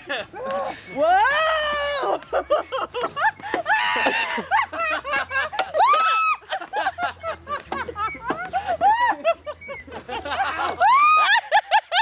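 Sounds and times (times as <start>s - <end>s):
people laughing and squealing: 0.0s - 12.0s.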